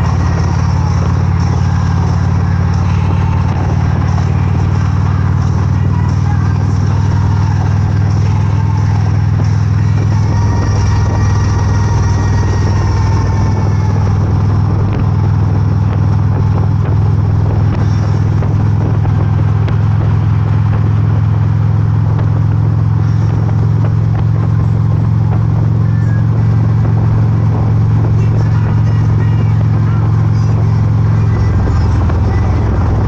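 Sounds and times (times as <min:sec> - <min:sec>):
motorcycle engine running: 0:00.0 - 0:33.0
rush of noise: 0:00.0 - 0:33.0.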